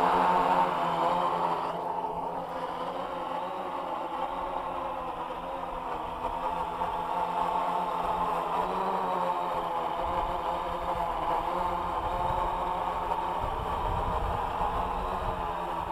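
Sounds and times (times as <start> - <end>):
quadcopter propellers buzzing: 0.0 - 15.9.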